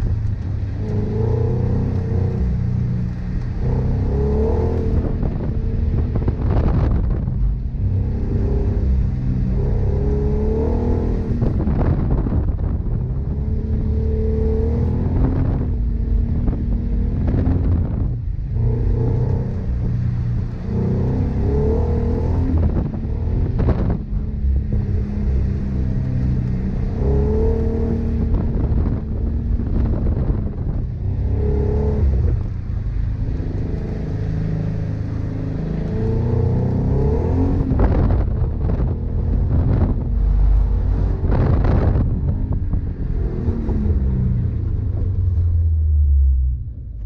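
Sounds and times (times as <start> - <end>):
car engine revving from inside cabin: 0.0 - 47.0.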